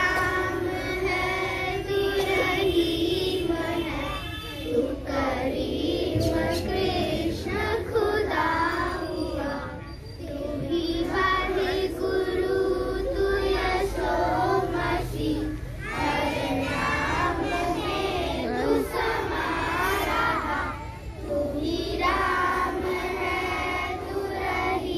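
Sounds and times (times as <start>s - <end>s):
children singing a prayer: 0.0s - 24.9s.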